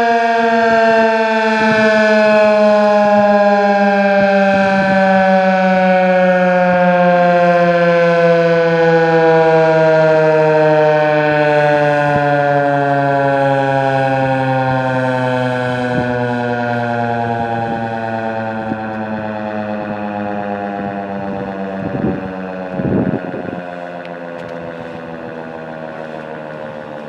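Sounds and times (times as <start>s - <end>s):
siren winding down: 0.0s - 27.0s.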